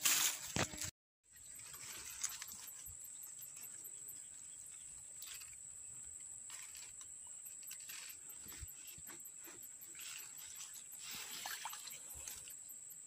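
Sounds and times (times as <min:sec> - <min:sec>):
insects buzzing: 0:00.0 - 0:13.0
pulsing insect chirp: 0:00.4 - 0:13.0.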